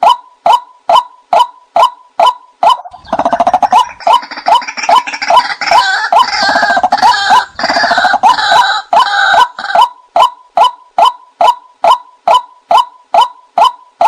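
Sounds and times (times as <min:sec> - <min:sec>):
waterhen kwak calls: 0:00.0 - 0:13.8.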